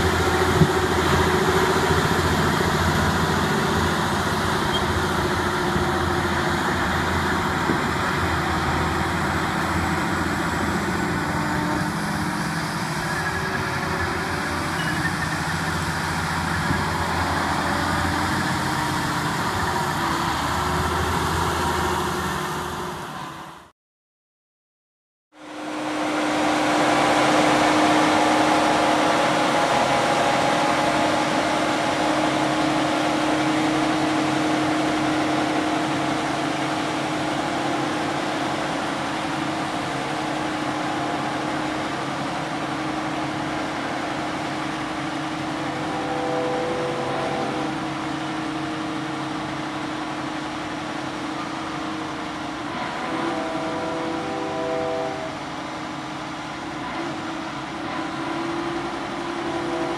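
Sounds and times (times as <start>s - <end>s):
tractor diesel engine under load: 0.0s - 23.7s, 25.8s - 53.6s.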